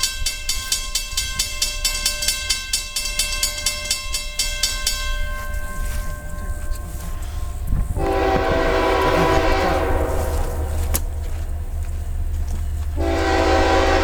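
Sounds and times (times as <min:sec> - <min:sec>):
crossing bell ringing: 0:00.0 - 0:14.0
freight train rumble: 0:00.0 - 0:14.0.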